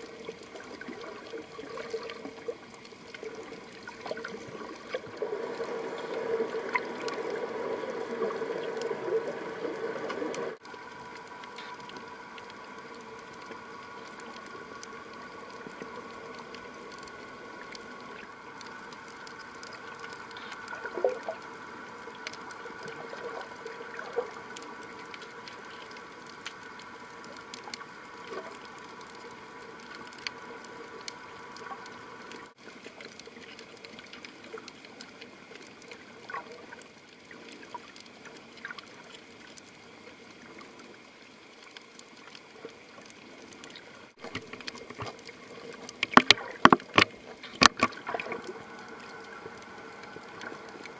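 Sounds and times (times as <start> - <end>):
faint hiss: 0.0 - 50.9
small clicks and crackles: 0.0 - 50.9
steady underwater hum: 0.0 - 50.9.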